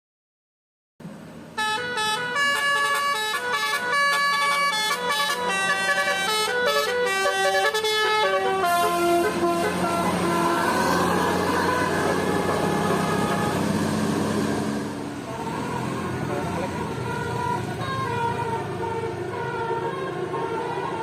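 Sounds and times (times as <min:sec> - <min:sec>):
bus air horn playing a tune: 0:01.5 - 0:21.0.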